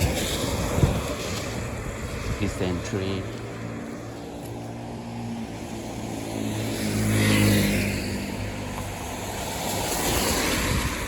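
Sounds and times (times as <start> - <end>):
car passing by: 0.0 - 11.0
traffic noise: 0.0 - 11.0.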